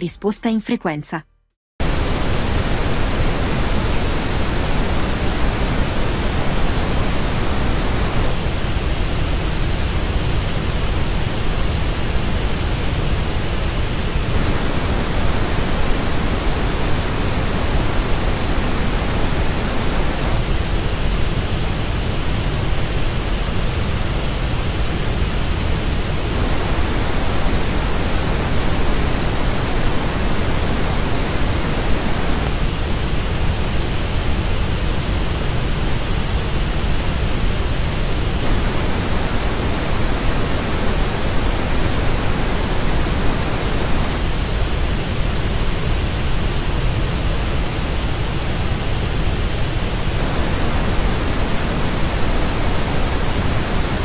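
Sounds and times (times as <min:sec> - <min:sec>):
pink noise: 0:01.8 - 0:54.0.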